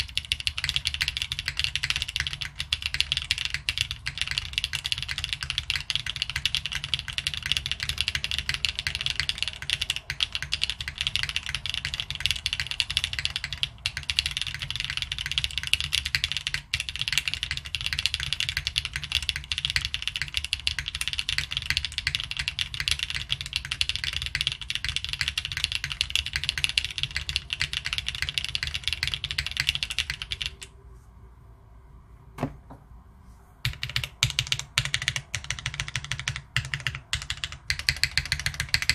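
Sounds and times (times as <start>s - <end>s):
typing on mechanical keyboard: 0.0s - 30.7s, 33.6s - 38.9s.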